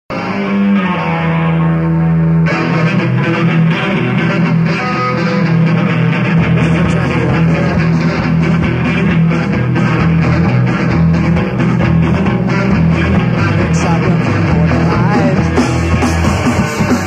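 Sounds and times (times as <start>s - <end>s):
electric guitar ringing notes: 0.1s - 17.0s
rock band playing: 0.1s - 17.0s.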